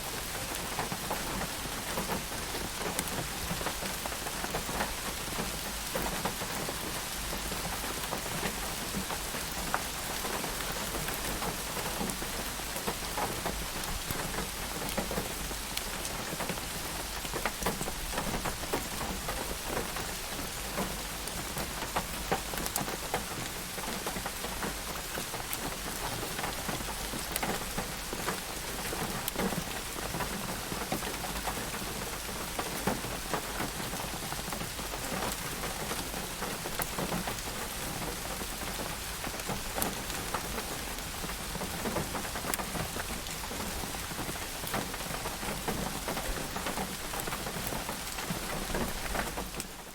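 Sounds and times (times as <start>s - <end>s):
raindrops pattering on a surface: 0.0s - 49.9s
steady rain: 0.0s - 49.9s.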